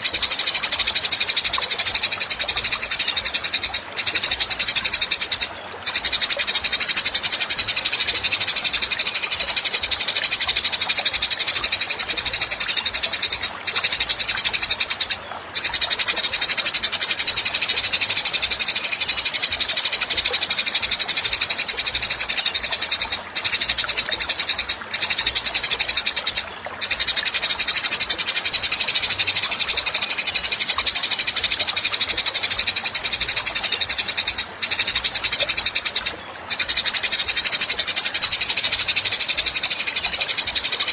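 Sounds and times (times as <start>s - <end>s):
songbird fast rattling trill: 0.0s - 40.9s.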